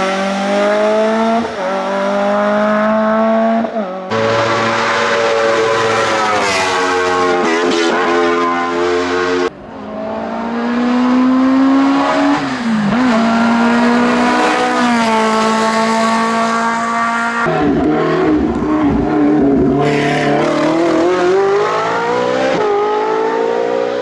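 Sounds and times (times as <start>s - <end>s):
racing car engine at high revs: 0.0s - 24.0s.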